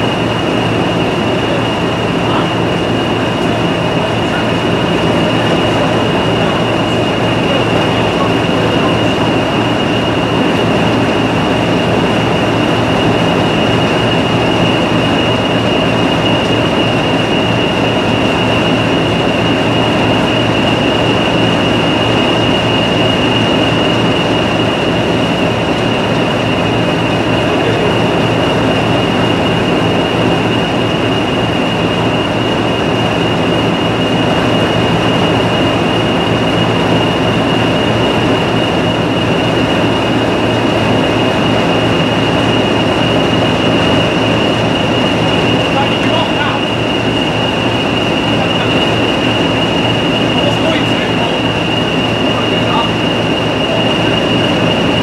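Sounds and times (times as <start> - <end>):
diesel engine rumble: 0.0 - 55.0
turbocharger whistle: 0.0 - 55.0.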